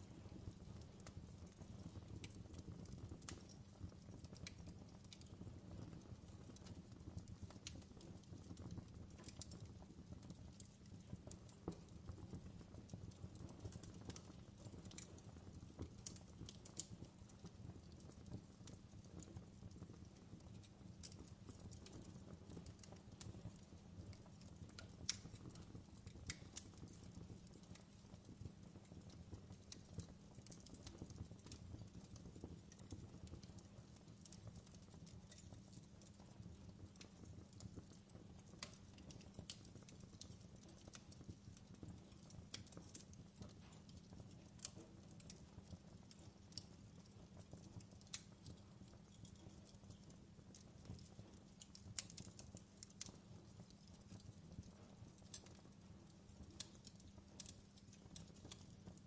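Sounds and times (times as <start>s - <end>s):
low background noise: 0.0s - 59.0s
wood fire crackling: 0.0s - 59.0s.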